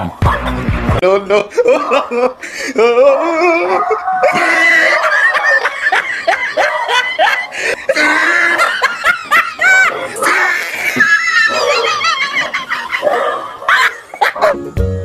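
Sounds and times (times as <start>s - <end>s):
loud laughter bursts: 0.1s - 14.5s.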